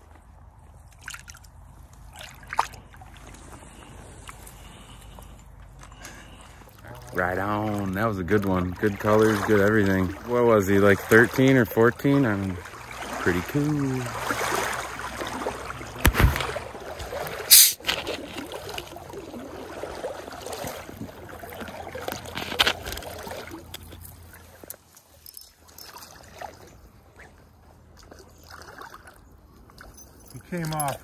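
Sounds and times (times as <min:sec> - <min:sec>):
stream water rippling: 0:00.0 - 0:31.0.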